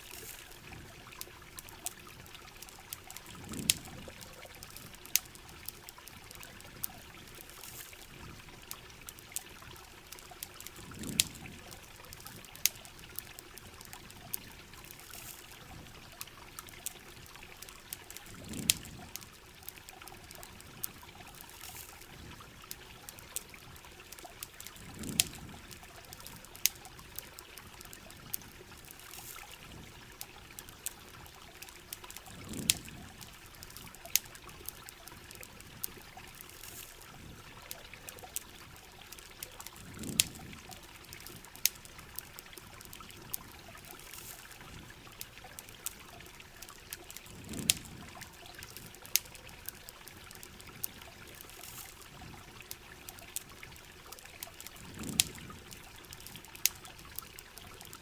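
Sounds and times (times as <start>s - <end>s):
campfire crackles: 0.0s - 58.0s
rain pattering: 0.0s - 58.0s
running water trickling: 0.0s - 58.0s.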